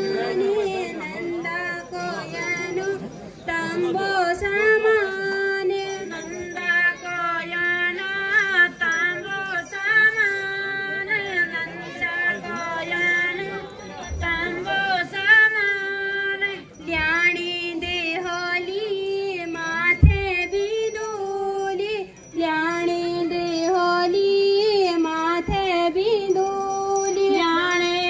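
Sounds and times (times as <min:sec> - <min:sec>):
women singing together: 0:00.0 - 0:28.0.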